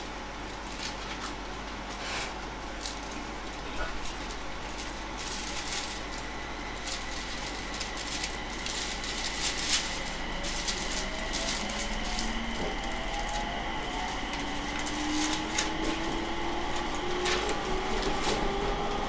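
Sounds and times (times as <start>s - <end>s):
electric train rumble and hiss: 0.0s - 19.0s
faint rising train whine: 2.3s - 19.0s.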